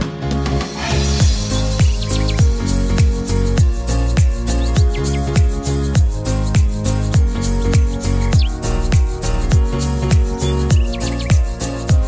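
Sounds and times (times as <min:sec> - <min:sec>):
music with held chords and beat: 0:00.0 - 0:12.0.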